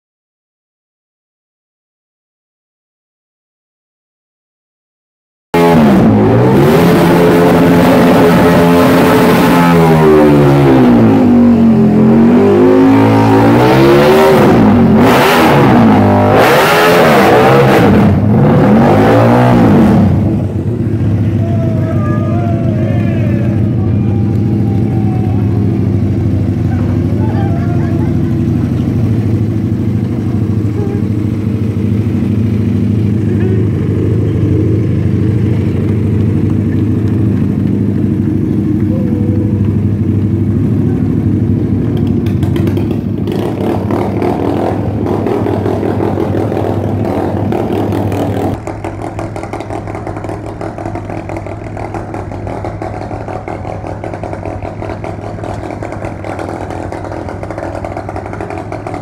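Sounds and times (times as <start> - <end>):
vehicle engine running: 5.6 - 59.0.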